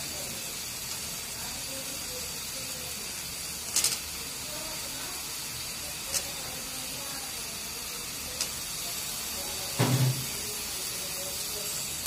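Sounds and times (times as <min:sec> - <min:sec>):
gravy hissing in a metal pan: 0:00.0 - 0:12.0.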